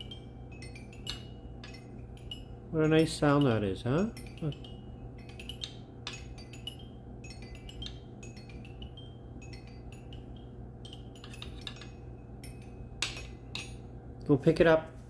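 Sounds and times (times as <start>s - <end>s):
toy xylophone notes: 0.0s - 13.7s.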